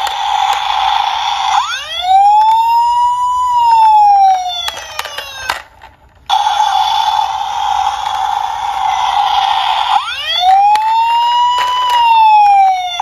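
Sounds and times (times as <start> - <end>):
toy electronic siren: 0.0 - 5.7, 6.3 - 13.0.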